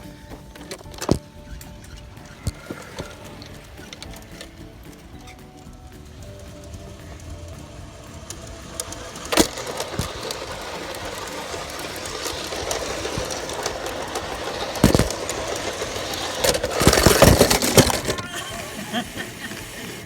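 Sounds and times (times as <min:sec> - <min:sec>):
model train running on track: 0:00.0 - 0:20.0.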